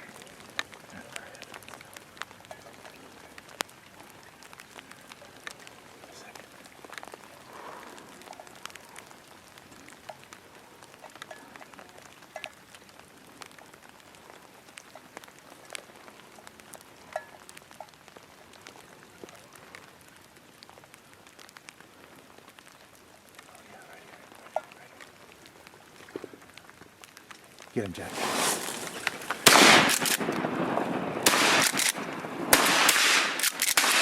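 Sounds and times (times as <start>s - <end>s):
rain falling: 0.0s - 34.0s
raindrops ticking: 0.0s - 34.0s.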